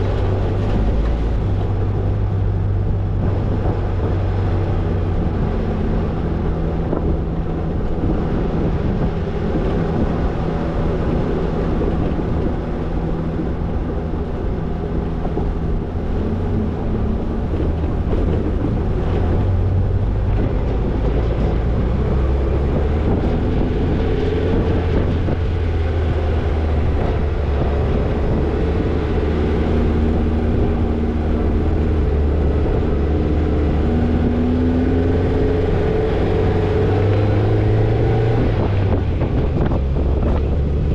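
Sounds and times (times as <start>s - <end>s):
car engine running: 0.0s - 40.9s
wind and tyre noise: 0.0s - 40.9s.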